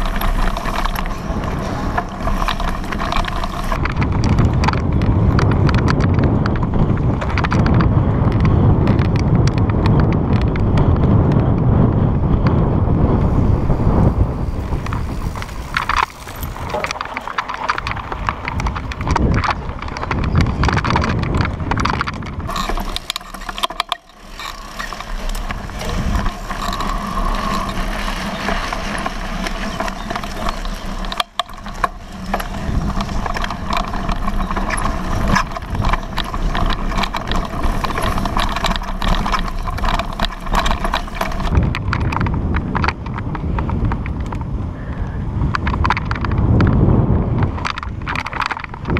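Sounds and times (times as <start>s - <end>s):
bike clattering and rattling: 0.0s - 48.9s
bike tyre noise: 0.0s - 48.9s
wind rumble on microphone: 0.0s - 48.9s.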